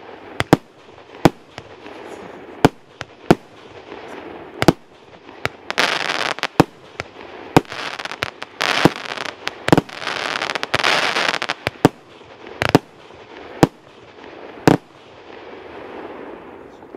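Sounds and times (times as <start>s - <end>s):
firework bangs: 0.0s - 16.9s
firework crackling: 0.0s - 16.9s.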